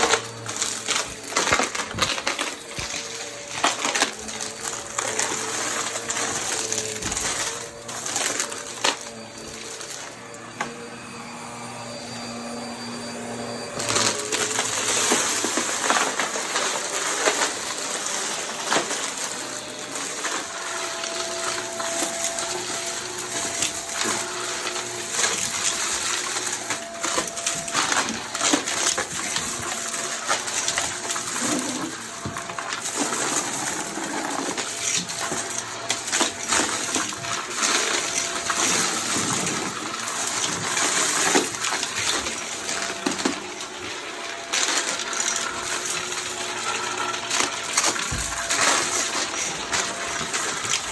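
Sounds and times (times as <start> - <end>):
debris clicking in vacuum: 0.0 - 10.0, 13.8 - 50.9
vacuum cleaner running: 0.0 - 50.9.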